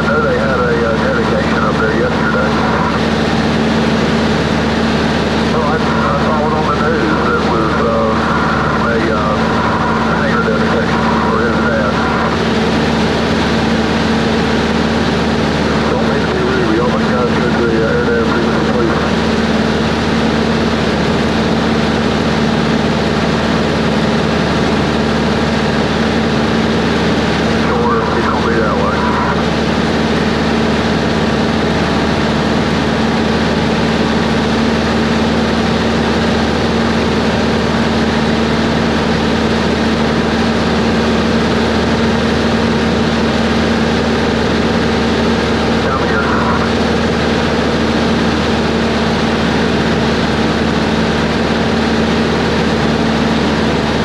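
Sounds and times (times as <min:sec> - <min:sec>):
light aircraft engine droning: 0:00.0 - 0:54.0.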